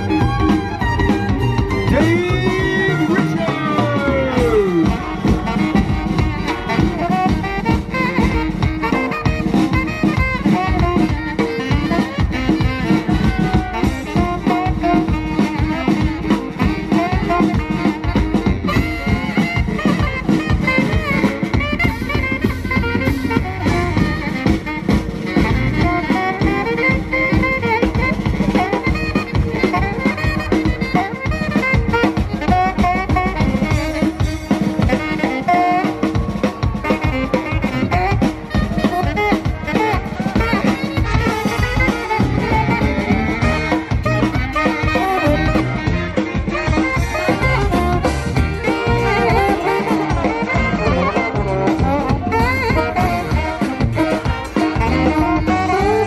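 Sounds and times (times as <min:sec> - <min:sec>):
drum kit swing beat: 0:00.0 - 0:56.0
swing big band playing: 0:00.0 - 0:56.0.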